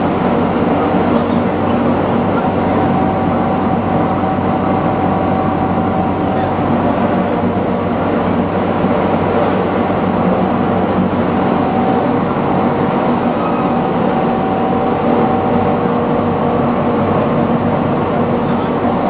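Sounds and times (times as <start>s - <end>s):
furnace burner roaring: 0.0s - 19.0s
steady hum tones: 0.0s - 19.0s.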